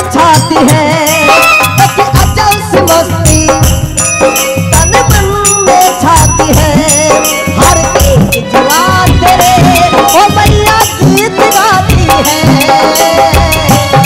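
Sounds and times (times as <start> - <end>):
jingling percussion: 0.0 - 14.0
steady drum beat: 0.0 - 14.0.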